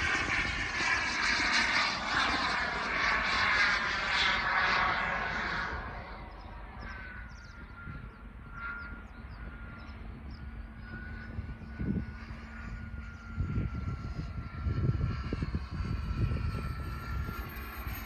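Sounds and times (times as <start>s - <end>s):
faint thin whine: 0.0s - 18.0s
jet engine rushing overhead: 0.0s - 18.0s.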